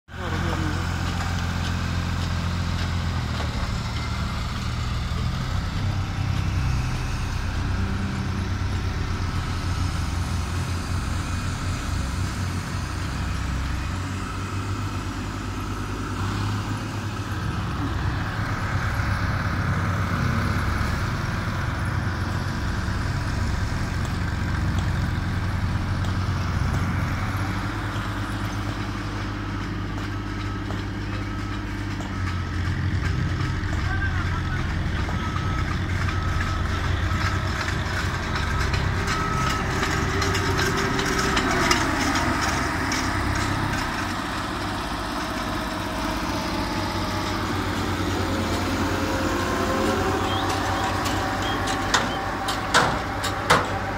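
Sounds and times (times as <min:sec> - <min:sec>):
road roller engines droning: 0:00.1 - 0:53.9.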